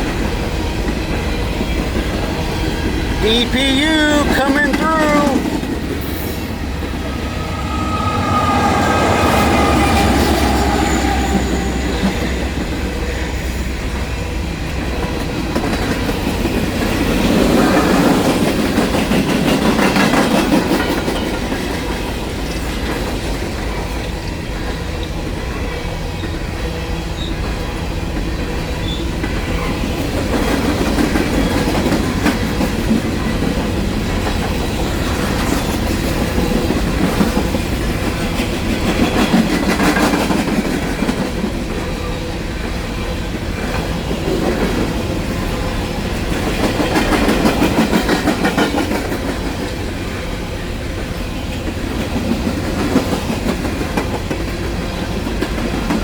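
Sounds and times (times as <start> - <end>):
diesel locomotives rumbling past: 0.0 - 56.0.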